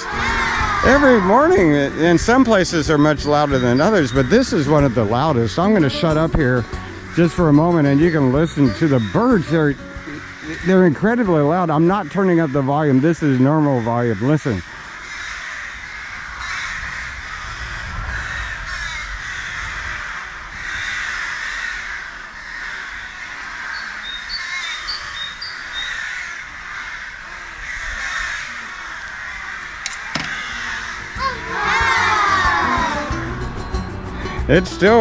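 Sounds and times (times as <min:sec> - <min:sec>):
chorus of birds calling: 0:00.0 - 0:35.0.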